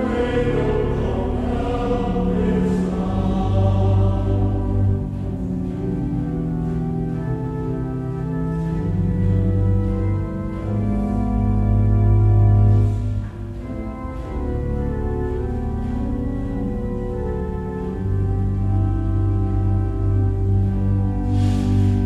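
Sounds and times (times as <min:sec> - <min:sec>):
organ playing slow chords: 0:00.0 - 0:22.0.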